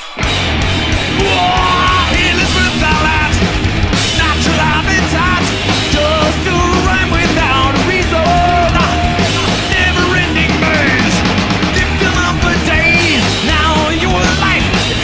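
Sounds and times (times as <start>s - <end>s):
heavy metal band playing: 0.0s - 15.0s
man singing lead vocal: 1.1s - 15.0s.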